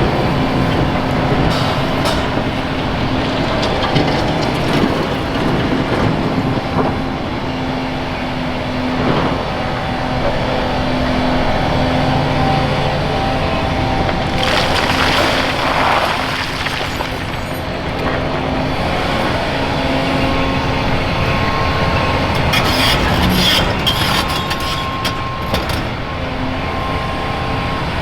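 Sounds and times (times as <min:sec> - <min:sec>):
heavy diesel machinery running: 0:00.0 - 0:28.0.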